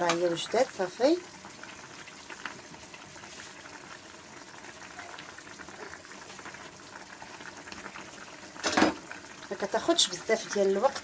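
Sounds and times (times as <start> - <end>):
pot of water boiling: 0.0 - 11.0.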